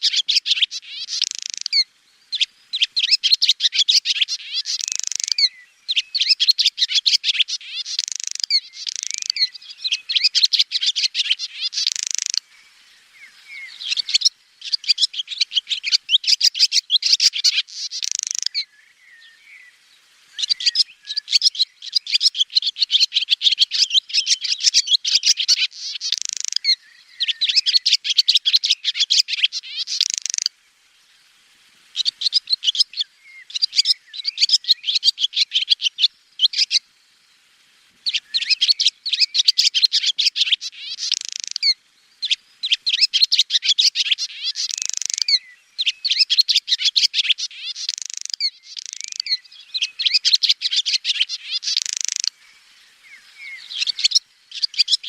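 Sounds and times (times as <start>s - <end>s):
swallow twittering: 0.0s - 30.5s, 31.9s - 36.8s, 38.0s - 55.0s.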